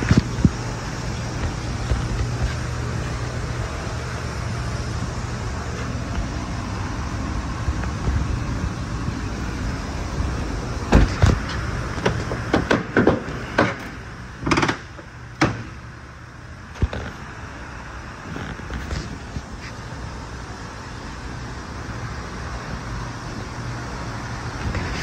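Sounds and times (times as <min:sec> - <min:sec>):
background hum and hiss: 0:00.0 - 0:25.0.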